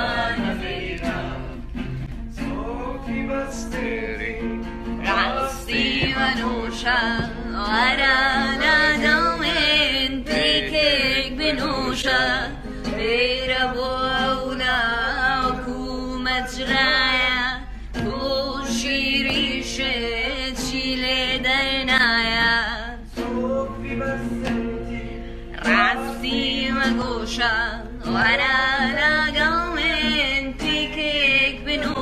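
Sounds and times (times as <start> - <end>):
woman singing with vibrato: 0.0 - 1.7, 5.0 - 24.8, 25.5 - 32.0.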